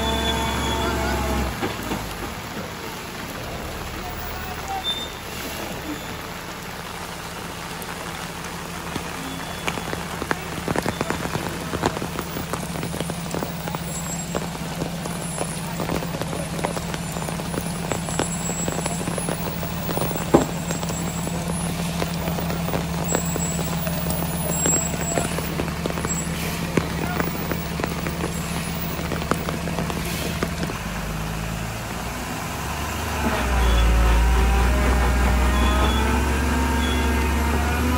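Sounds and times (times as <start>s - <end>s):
heavy rain pattering and dripping: 0.0s - 37.9s
lorry diesel engine humming: 0.0s - 37.9s.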